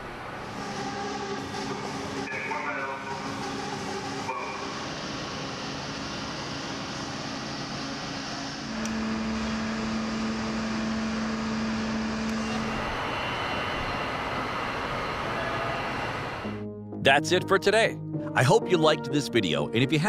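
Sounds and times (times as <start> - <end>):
aircraft engine running: 0.0 - 18.7.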